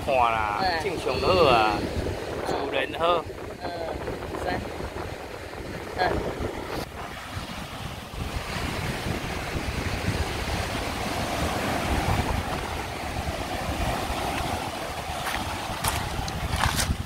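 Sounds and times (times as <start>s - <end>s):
ocean surf breaking on shore: 0.0s - 17.0s
wind rumbling on microphone: 0.0s - 17.0s.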